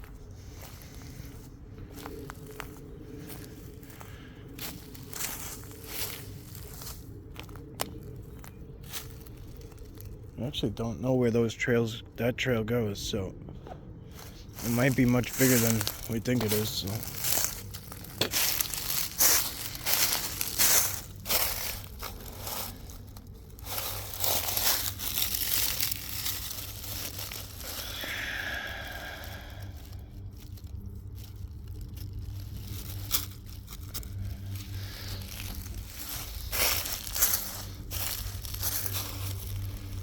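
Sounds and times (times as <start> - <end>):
footsteps crunching dry leaves: 0.0 - 10.8, 13.7 - 40.0.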